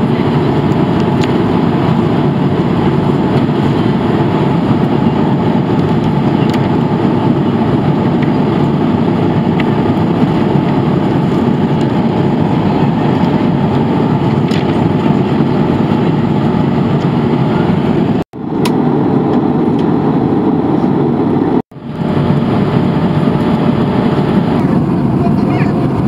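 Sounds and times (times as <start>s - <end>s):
aircraft cabin engine rumble: 0.0s - 26.0s.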